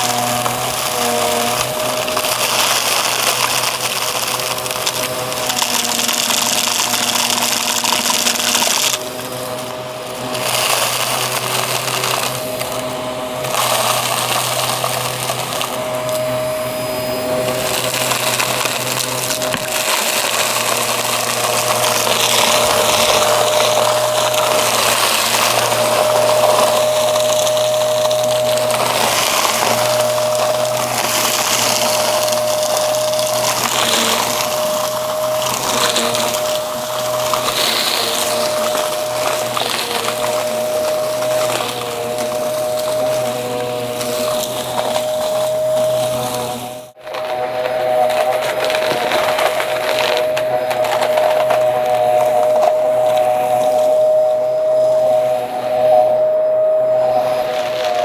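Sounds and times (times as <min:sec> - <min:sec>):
debris crackling through nozzle: 0:00.0 - 0:58.0
vacuum cleaner motor whine: 0:00.0 - 0:58.0.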